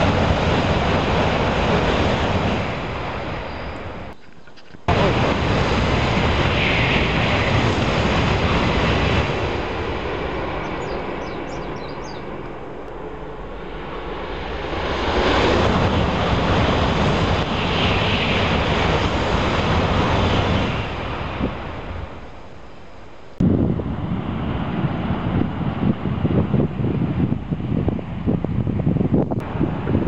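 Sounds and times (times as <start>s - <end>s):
high-speed train rushing past: 0.0s - 4.2s, 4.8s - 30.0s.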